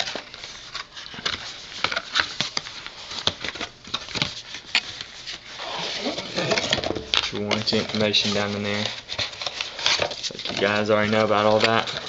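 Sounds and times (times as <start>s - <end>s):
hands handling cardboard box: 0.0s - 12.0s.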